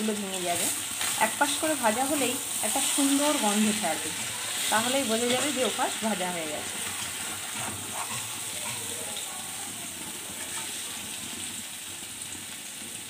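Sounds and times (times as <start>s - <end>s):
food sizzling in oil: 0.0s - 13.0s
wooden spatula stirring food: 0.6s - 11.6s.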